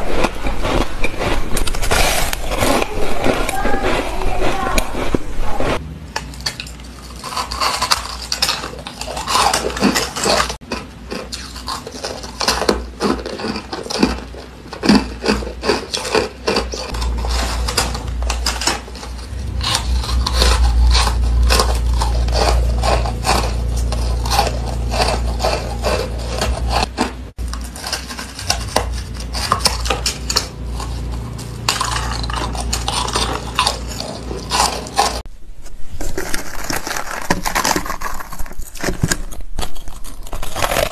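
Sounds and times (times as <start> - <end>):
ice crunching being chewed: 0.0 - 35.3, 35.9 - 40.9.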